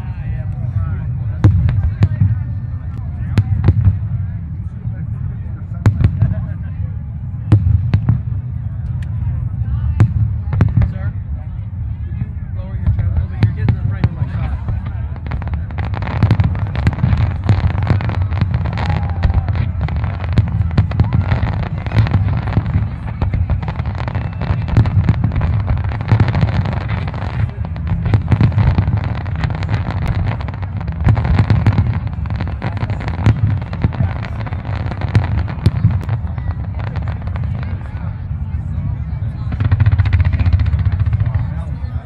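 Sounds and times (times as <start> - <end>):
fireworks crackling in the sky: 0.0 - 42.0
heavy low booms: 0.0 - 42.0
sharp firework reports: 0.0 - 42.0.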